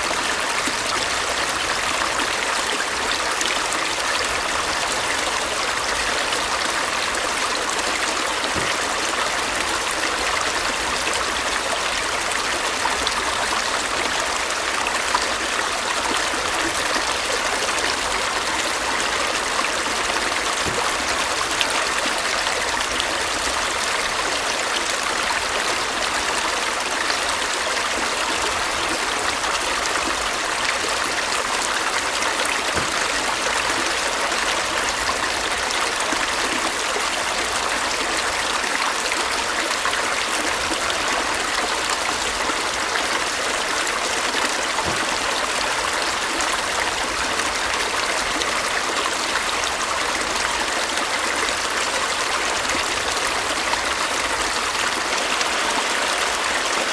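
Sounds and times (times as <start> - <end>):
stream babbling over stones: 0.0 - 56.9.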